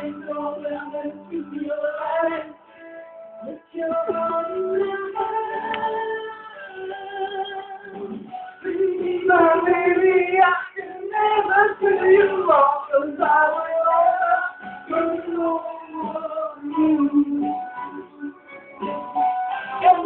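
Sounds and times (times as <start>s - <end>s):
music: 0.0s - 20.0s
person singing: 0.0s - 20.0s.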